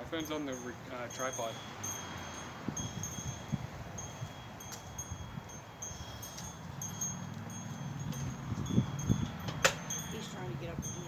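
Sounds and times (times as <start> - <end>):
high chime tones: 0.2 - 11.0.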